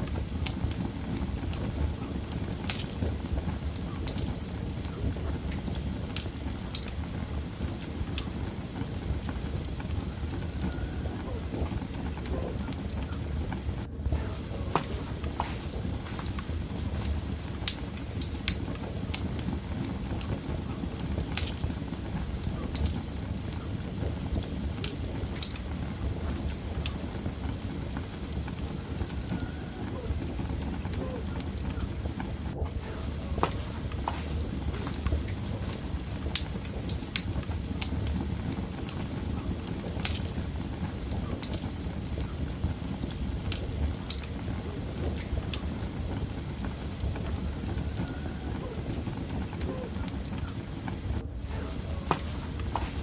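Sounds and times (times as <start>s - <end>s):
fire crackles and pops: 0.0s - 53.0s
fire flames rumbling: 0.0s - 53.0s.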